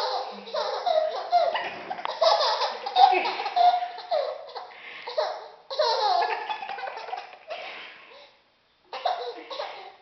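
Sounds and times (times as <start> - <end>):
baby laughing: 0.0 - 8.3, 8.9 - 10.0.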